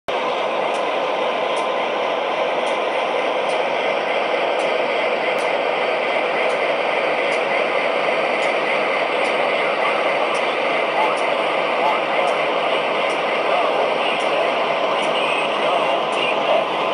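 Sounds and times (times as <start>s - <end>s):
hissy diesel engine from small speaker: 0.1s - 16.9s.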